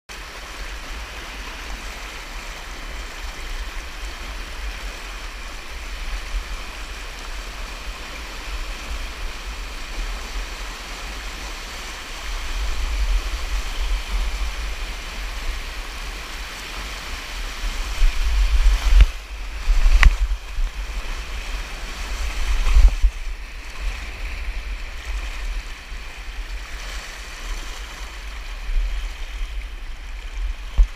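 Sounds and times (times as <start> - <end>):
whitewater rushing over rock: 0.1 - 30.9
wind buffeting microphone: 1.6 - 30.9.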